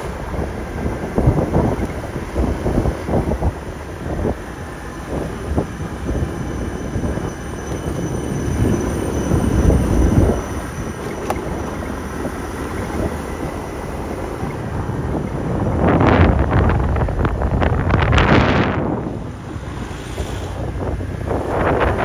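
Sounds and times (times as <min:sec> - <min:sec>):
scooter engine running: 0:00.0 - 0:22.0
wind buffeting microphone: 0:00.0 - 0:22.0.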